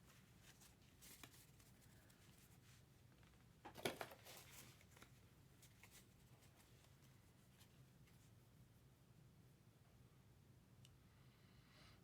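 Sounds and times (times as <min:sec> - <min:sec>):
faint low room hum: 0:00.0 - 0:12.0.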